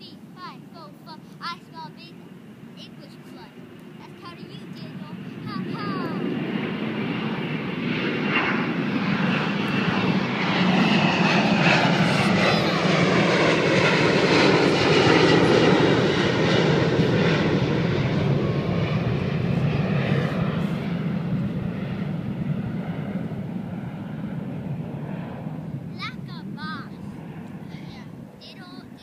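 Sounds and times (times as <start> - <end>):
aircraft engine drone overhead: 0.0 - 29.0.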